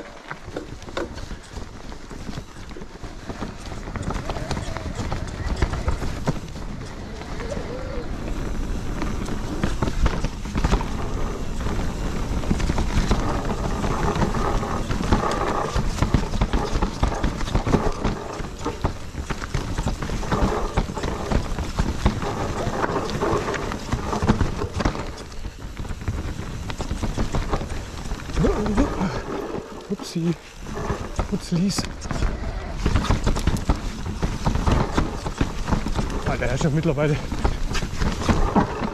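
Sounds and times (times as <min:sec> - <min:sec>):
bike clattering over rough trail: 0:00.0 - 0:38.9.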